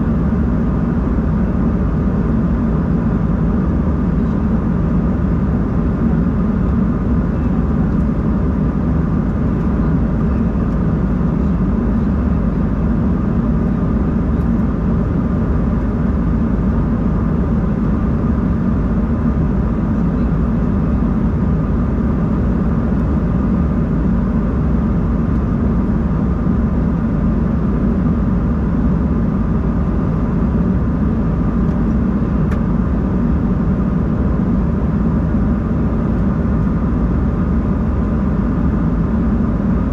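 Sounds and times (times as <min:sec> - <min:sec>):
airflow rushing in aircraft cabin: 0:00.0 - 0:39.9
jet engine hum: 0:00.0 - 0:39.9.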